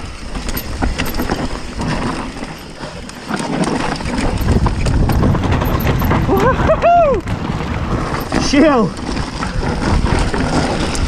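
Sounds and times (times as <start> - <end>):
bike clattering and rattling: 0.0 - 11.0
bike tyres rumbling over roots: 0.0 - 11.0.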